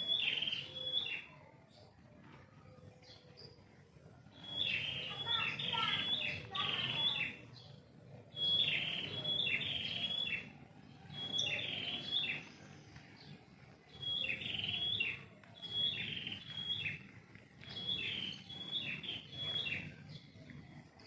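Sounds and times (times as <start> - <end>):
songbird chirping: 0.0 - 21.0.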